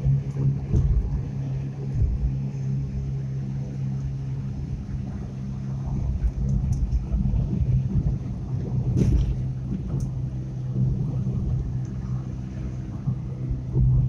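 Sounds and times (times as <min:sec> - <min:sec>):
car engine drone: 0:00.0 - 0:14.0
road and tyre rumble: 0:00.0 - 0:14.0.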